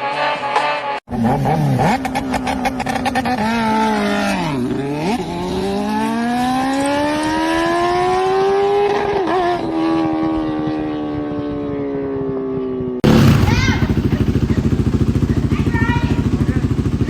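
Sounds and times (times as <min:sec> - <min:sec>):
engine revving: 0:00.0 - 0:11.3, 0:13.0 - 0:17.0.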